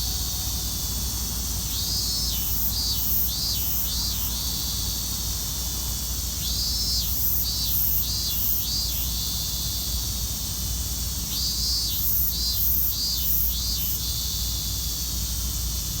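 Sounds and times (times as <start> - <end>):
cicada singing: 0.0 - 16.0.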